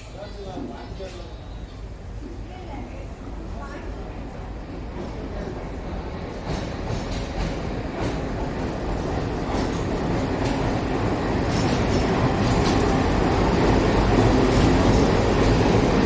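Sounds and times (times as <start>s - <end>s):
train rumbling with wheel clacks: 0.0s - 16.0s.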